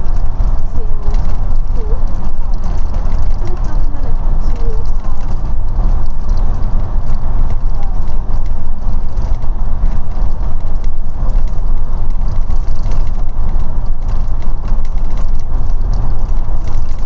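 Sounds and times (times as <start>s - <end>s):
bodywork rattling clicks: 0.0s - 17.0s
bus engine and road rumble: 0.0s - 17.0s.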